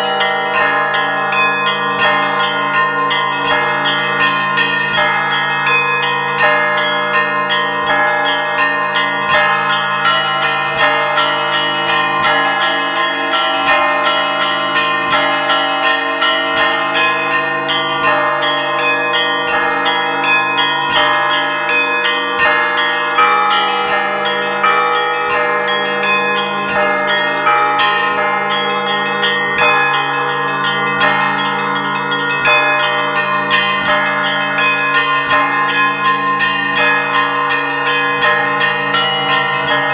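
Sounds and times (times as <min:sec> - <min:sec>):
large deep bells ringing: 0:00.0 - 0:39.9
small bells striking: 0:00.0 - 0:39.9.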